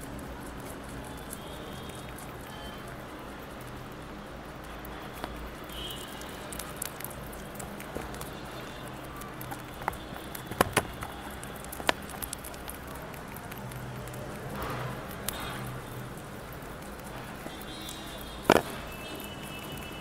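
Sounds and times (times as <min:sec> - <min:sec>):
rabbits munching greens: 0:00.0 - 0:20.0.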